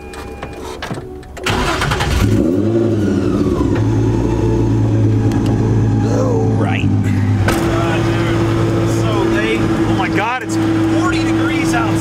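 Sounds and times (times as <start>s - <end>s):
car engine starting and idling: 0.0s - 12.0s.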